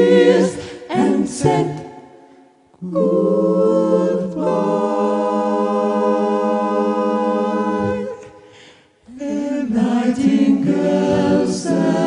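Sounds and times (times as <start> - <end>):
a cappella voices singing harmony: 0.0 - 12.0.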